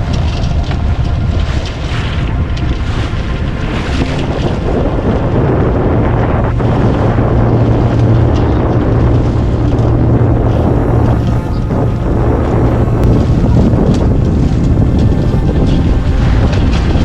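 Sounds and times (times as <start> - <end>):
low hum: 0.0 - 17.0
water splashing along boat hull: 0.0 - 17.0
wind buffeting microphone: 0.0 - 17.0.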